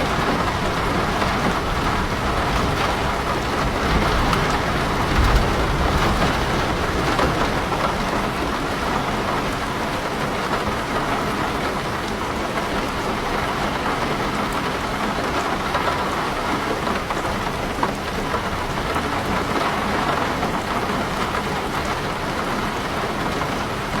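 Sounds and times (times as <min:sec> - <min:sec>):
heavy rain on house and leaves: 0:00.0 - 0:24.0.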